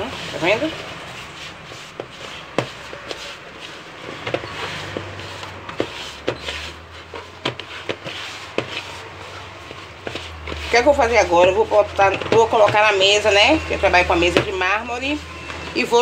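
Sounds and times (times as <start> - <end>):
hand rubbing dough in bowl: 0.0 - 16.0.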